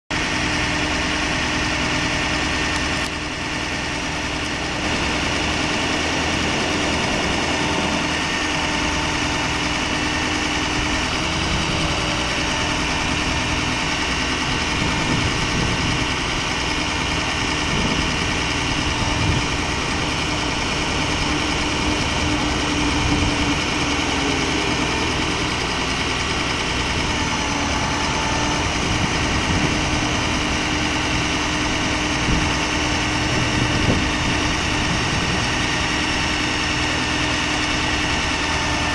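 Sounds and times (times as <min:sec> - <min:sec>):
diesel engine idling: 0:00.1 - 0:38.9
steady hum: 0:01.1 - 0:37.8.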